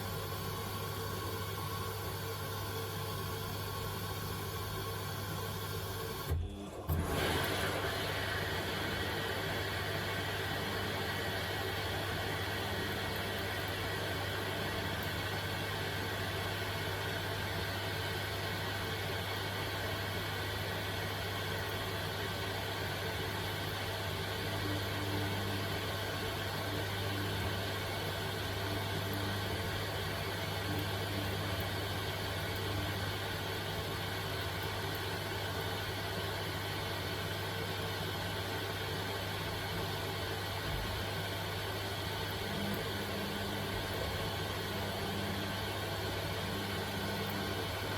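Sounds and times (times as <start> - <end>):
washing machine humming: 0.0 - 47.9.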